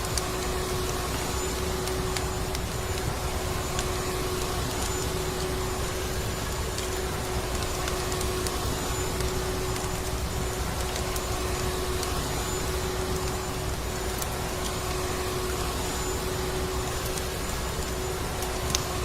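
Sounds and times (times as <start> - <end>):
faint scattered crackles: 0.0 - 19.0.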